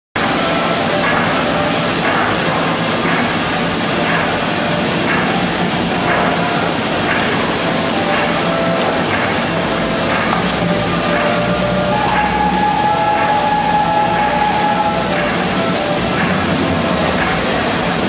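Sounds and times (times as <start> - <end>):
printing machinery humming: 0.2 - 18.0.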